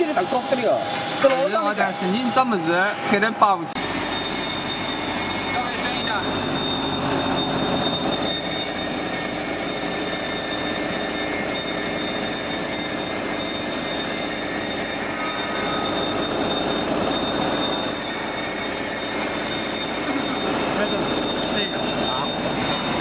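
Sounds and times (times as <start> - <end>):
constant high whine: 0.0 - 23.0
machine drone: 0.0 - 23.0.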